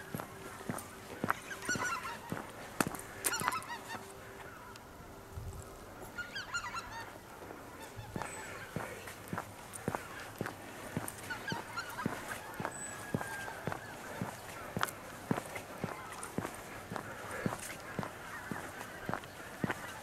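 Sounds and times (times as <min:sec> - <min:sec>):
footsteps on a path: 0:00.0 - 0:04.8, 0:05.4 - 0:20.0
geese honking: 0:00.0 - 0:05.2, 0:05.8 - 0:20.0.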